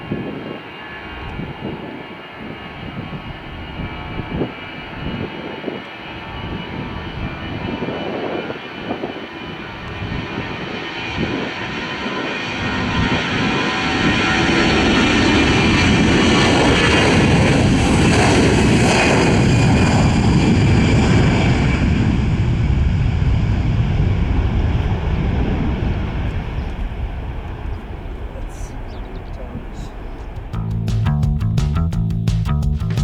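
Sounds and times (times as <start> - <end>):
jet airliner departing: 0.0 - 30.8.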